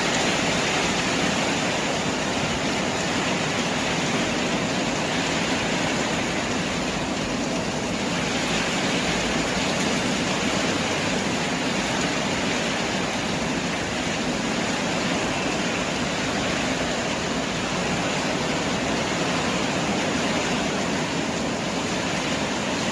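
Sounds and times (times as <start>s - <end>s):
heavy rain: 0.0s - 22.9s
wind: 0.0s - 22.9s.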